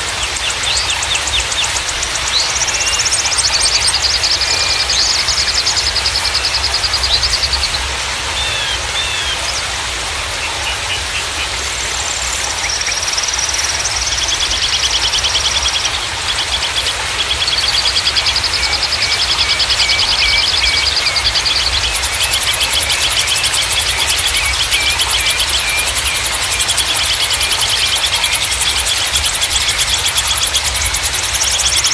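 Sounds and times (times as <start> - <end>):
running water rushing: 0.0 - 31.9
songbirds trilling and chirping: 0.0 - 31.9.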